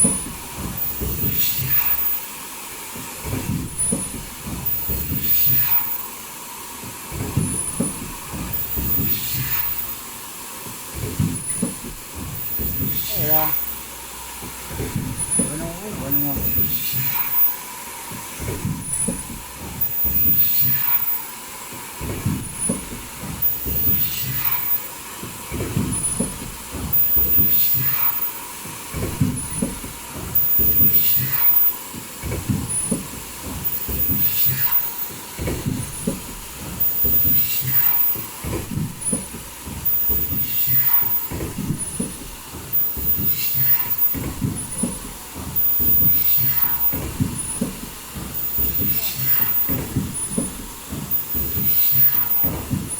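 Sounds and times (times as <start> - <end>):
machine clatter: 0.0 - 6.2, 6.8 - 52.9.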